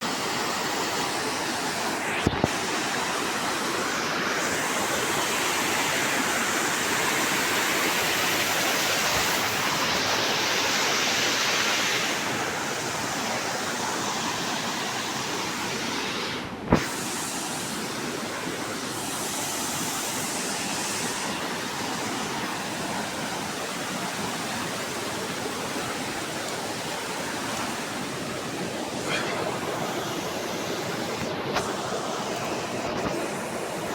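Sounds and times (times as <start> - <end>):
rushing water: 0.0 - 33.9.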